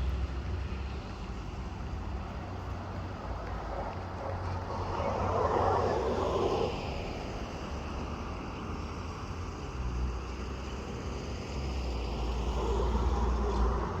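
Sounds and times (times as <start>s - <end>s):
distant light aircraft engine drone: 0.0s - 14.0s.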